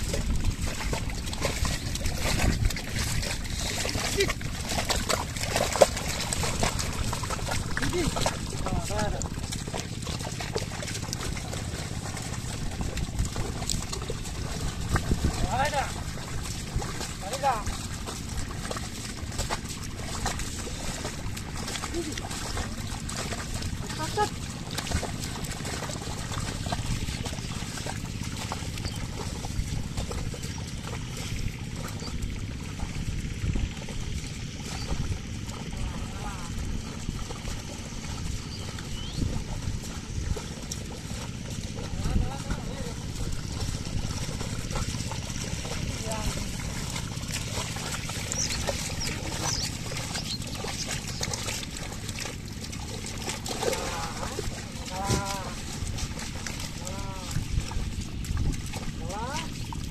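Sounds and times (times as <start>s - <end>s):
low rumble: 0.0s - 59.9s
mud and water sloshing under hooves: 0.0s - 59.9s
small splashes: 0.0s - 59.9s
wooden plank dragged through water: 0.0s - 59.9s.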